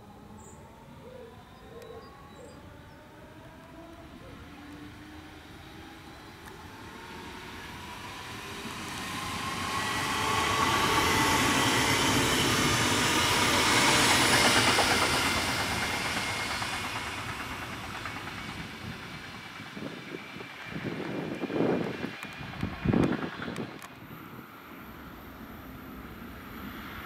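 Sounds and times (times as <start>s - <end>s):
electric train whine: 0.0s - 27.0s
train wheels rumbling on track: 3.2s - 27.0s.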